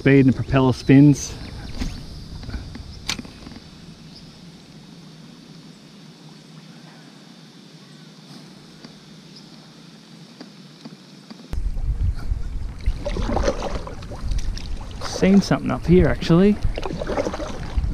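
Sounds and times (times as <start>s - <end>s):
faint high hiss: 0.1s - 16.6s.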